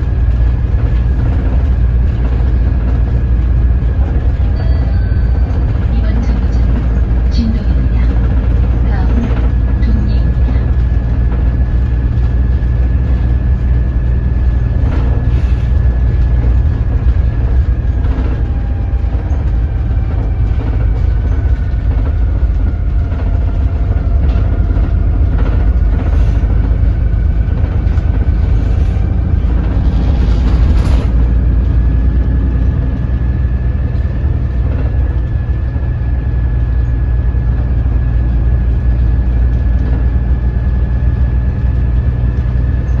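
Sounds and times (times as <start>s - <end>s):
bus diesel engine rumbling: 0.0s - 43.0s.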